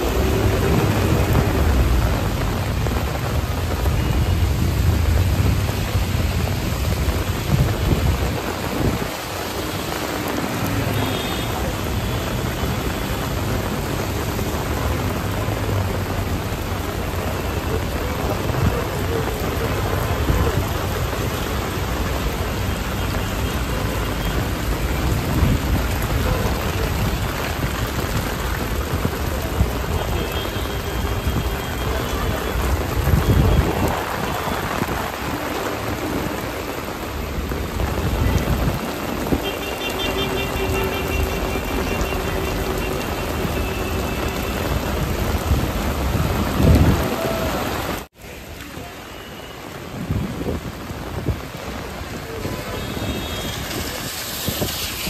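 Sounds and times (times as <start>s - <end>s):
heavy rain on a wet road: 0.0s - 55.0s.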